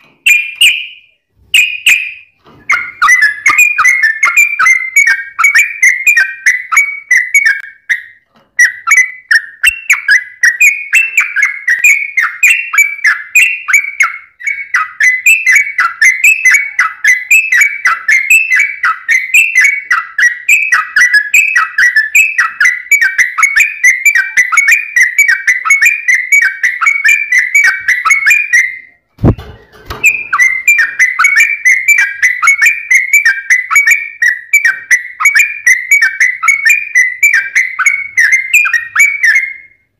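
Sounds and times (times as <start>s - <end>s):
bird singing whistled phrases: 0.2s - 39.9s.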